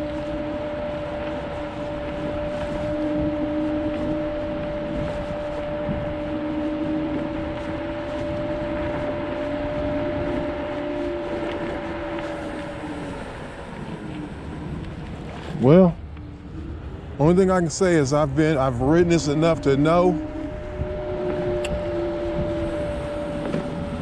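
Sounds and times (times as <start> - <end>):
electric scooter whine: 0.0 - 24.0
road noise: 0.0 - 24.0
rushing wind: 0.0 - 24.0.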